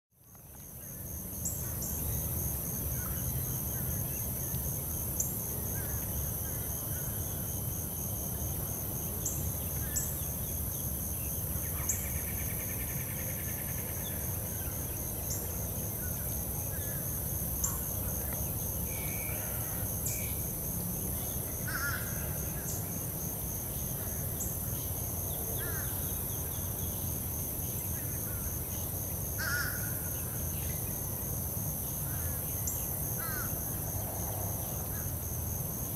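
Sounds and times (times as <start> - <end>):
high insect trill: 0.2 - 35.9.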